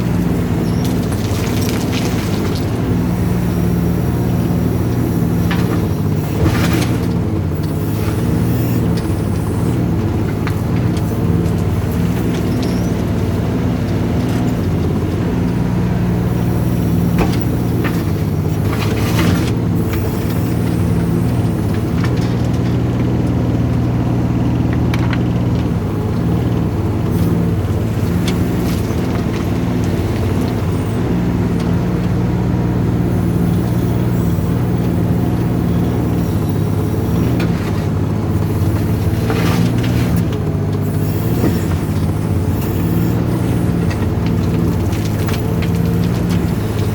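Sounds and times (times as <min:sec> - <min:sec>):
digging knocks and clanks: 0:00.0 - 0:15.7, 0:16.8 - 0:31.8, 0:33.4 - 0:46.9
excavator diesel engine running: 0:00.0 - 0:46.9.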